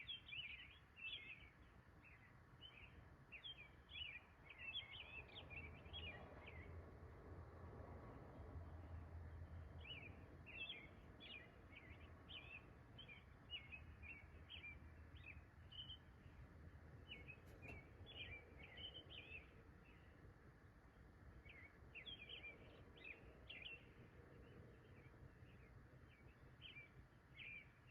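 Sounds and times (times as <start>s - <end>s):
bird chirping: 0.0s - 6.7s, 9.8s - 20.3s, 20.9s - 27.9s.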